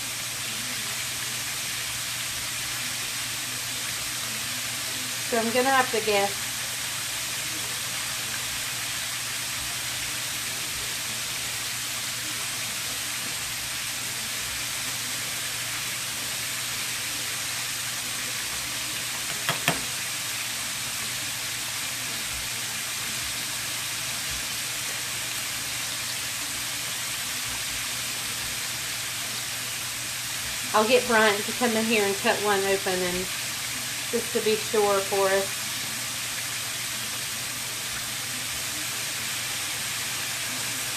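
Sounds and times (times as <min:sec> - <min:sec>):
food deep-frying in oil: 0:00.0 - 0:40.9.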